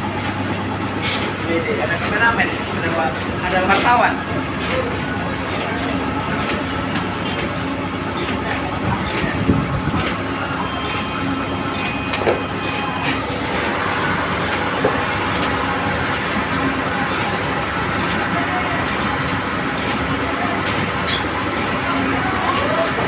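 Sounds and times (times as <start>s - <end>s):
heavy engine running: 0.0s - 23.0s.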